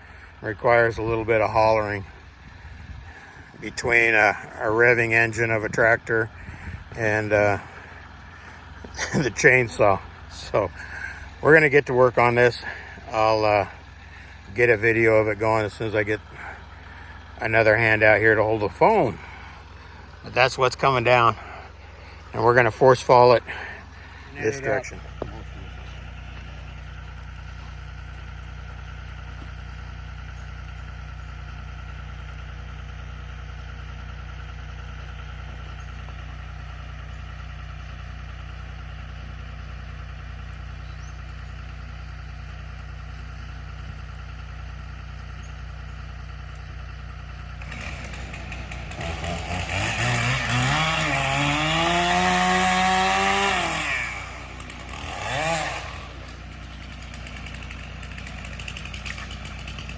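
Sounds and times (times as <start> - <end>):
engine idling: 0.0 - 59.9
chainsaw revving and cutting: 3.1 - 39.5, 47.5 - 59.9.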